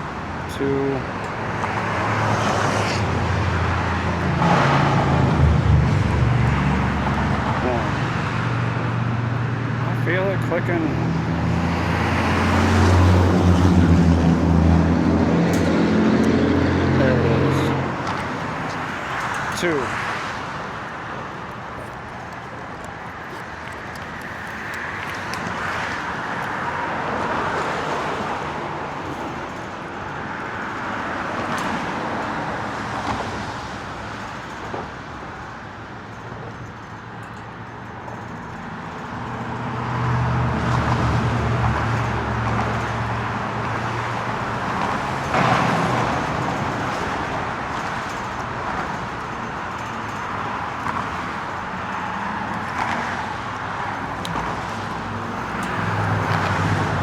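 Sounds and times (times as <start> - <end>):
heavy vehicle low engine: 0.0 - 57.0
road traffic passing: 0.0 - 57.0.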